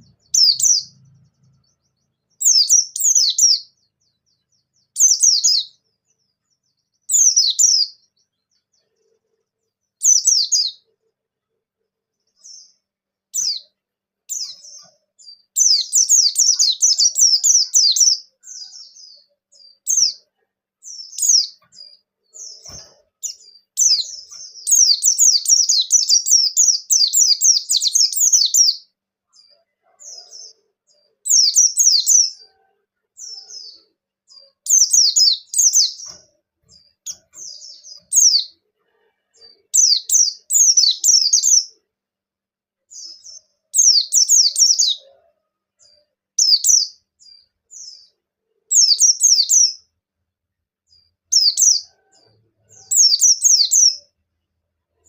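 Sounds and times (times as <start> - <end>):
white-eye bird singing: 0.0 - 11.1, 12.1 - 41.9, 42.9 - 50.0, 50.9 - 54.2.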